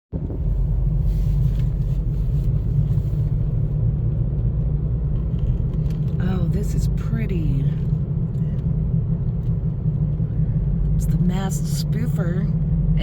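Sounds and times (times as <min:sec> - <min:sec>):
car interior rumble: 0:00.1 - 0:13.0.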